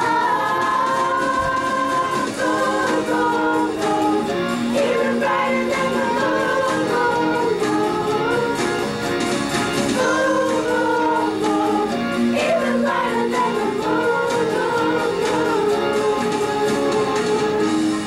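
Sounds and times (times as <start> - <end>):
children's choir singing: 0.0 - 9.1, 9.7 - 18.0.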